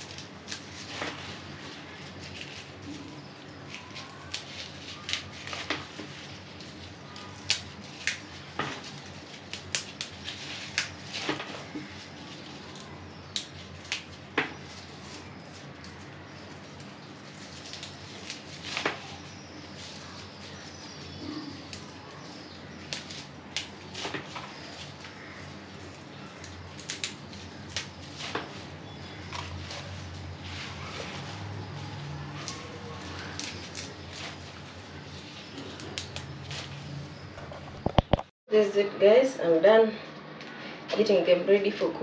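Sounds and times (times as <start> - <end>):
leaves snapping and rustling: 0.0 - 38.3.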